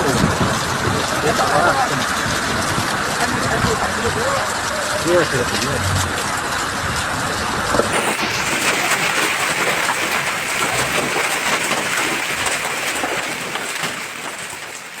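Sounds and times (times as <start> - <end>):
heavy rain on hard surfaces: 0.0 - 15.0.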